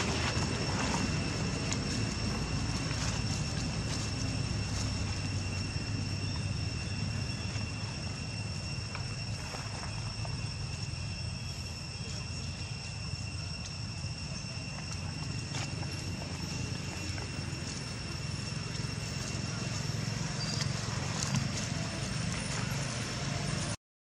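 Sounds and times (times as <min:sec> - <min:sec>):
dry leaves crackling underfoot: 0:00.0 - 0:23.7
low rumble: 0:00.0 - 0:23.7
insects droning: 0:00.0 - 0:23.8.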